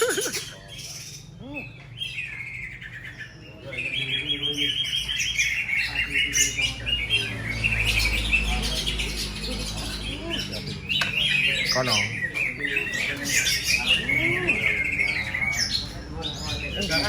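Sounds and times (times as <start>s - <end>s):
songbirds twittering: 0.0s - 17.0s.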